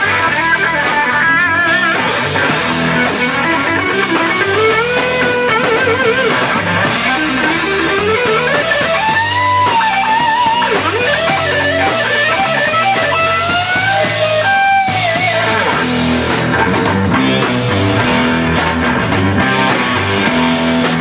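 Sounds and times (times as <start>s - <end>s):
electric guitar solo: 0.0s - 21.0s
hard rock band playing: 0.0s - 21.0s.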